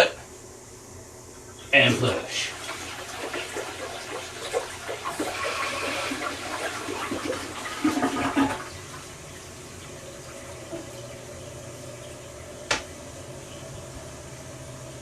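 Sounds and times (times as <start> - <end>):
toilet flushing: 1.6 - 15.0
toilet tank refilling hiss: 1.7 - 15.0.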